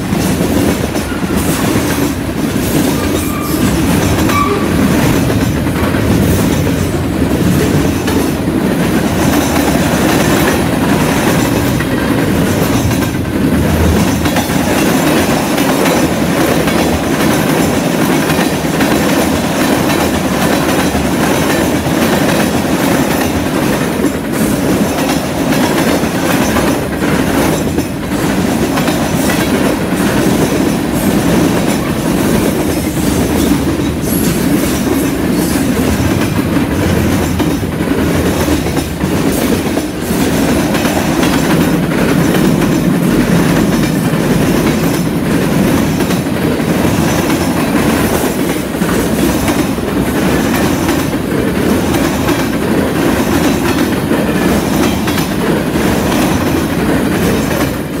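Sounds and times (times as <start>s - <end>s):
train wheels rumbling on rails: 0.0s - 58.0s
wheels clickety-clack: 0.0s - 58.0s.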